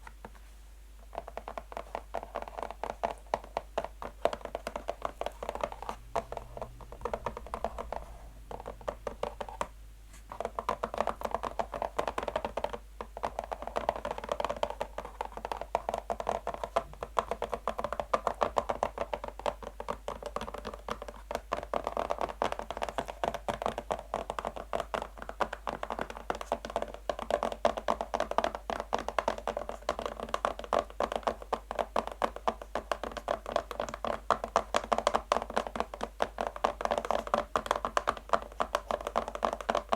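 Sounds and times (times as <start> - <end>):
fingernails tapping on a box: 1.1 - 9.7, 10.3 - 39.9.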